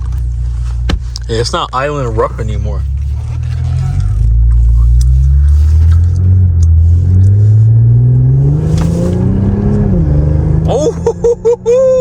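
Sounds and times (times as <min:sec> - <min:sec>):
turbocharged car engine accelerating: 0:00.0 - 0:12.0.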